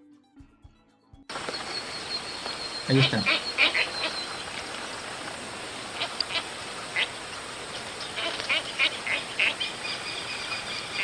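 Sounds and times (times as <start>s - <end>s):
field recording hiss: 1.3s - 11.0s
ibis calls: 1.3s - 11.0s.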